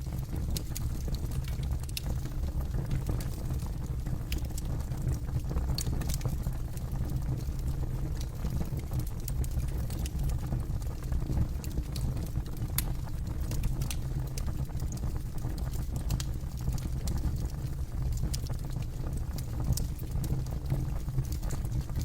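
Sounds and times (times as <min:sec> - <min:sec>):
campfire low rumble: 0:00.0 - 0:22.0
wood crackling and popping: 0:00.0 - 0:22.0.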